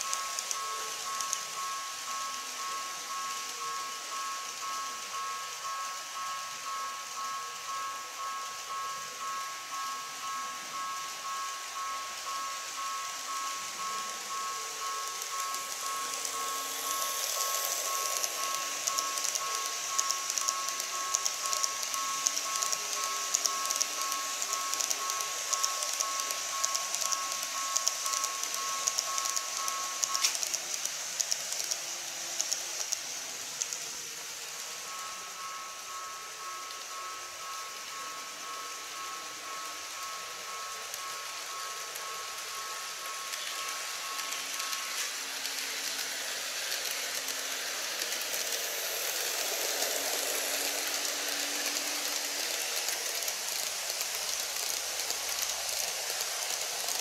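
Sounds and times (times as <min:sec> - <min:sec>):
model train wheels rattling: 0:00.0 - 0:57.0
steady high whine: 0:00.0 - 0:57.0.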